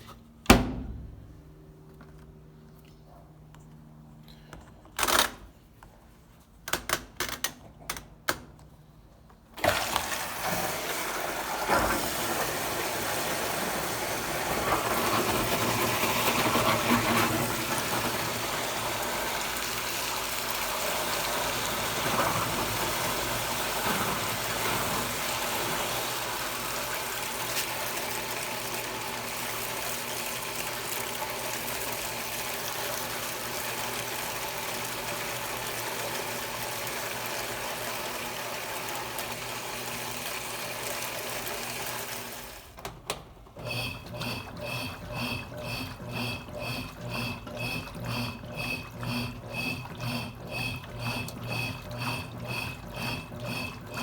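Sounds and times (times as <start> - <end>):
water rushing into washing machine: 9.6 - 54.0.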